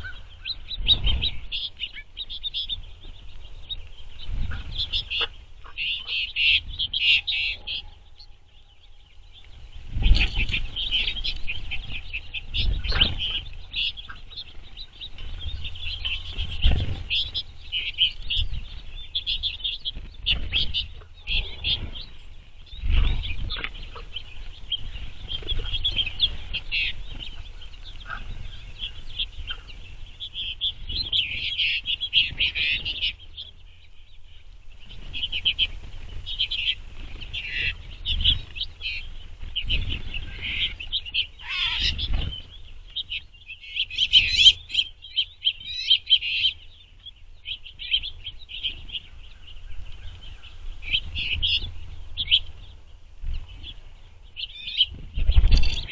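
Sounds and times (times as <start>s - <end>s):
finches twittering and chirping: 0.0s - 55.9s.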